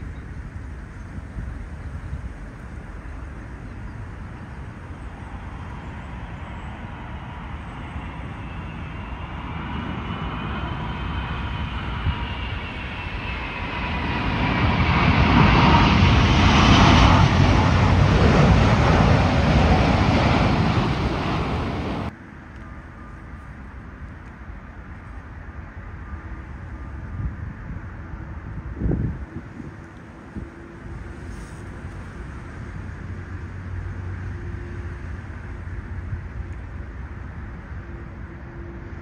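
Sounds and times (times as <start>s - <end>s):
distant jet noise: 0.0s - 39.0s
high engine whine: 0.0s - 39.0s
jet airliner landing: 0.0s - 39.0s.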